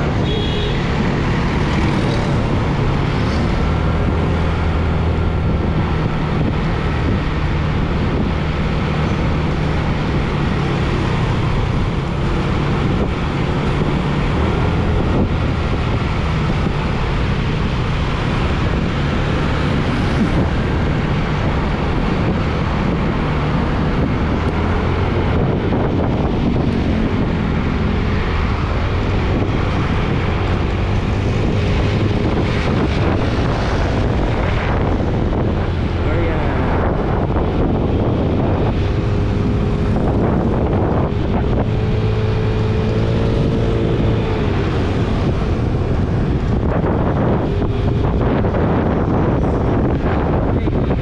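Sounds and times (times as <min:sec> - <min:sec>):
wind noise on microphone: 0:00.0 - 0:51.0.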